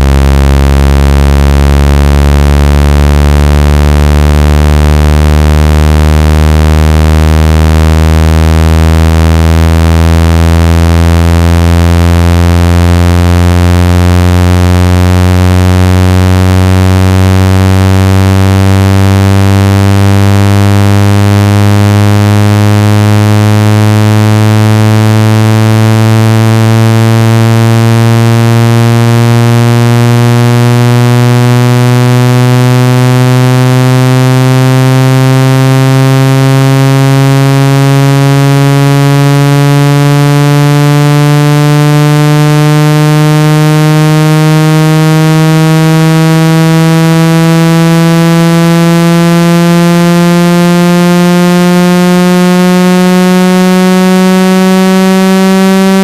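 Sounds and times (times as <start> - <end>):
buzzy low tone rising in pitch: 0.0 - 56.0.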